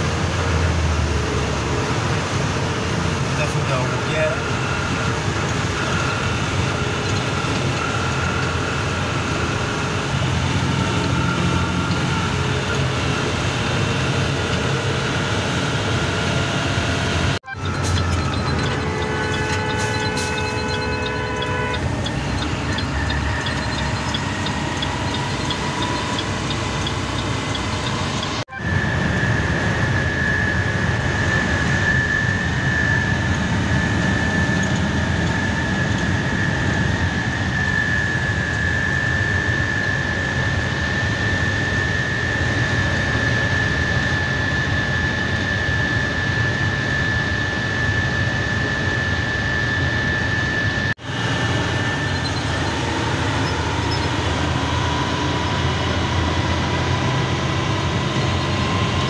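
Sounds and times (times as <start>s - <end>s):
high whine: 0.0s - 59.0s
road noise: 0.0s - 59.0s
truck engine drone: 0.0s - 59.0s.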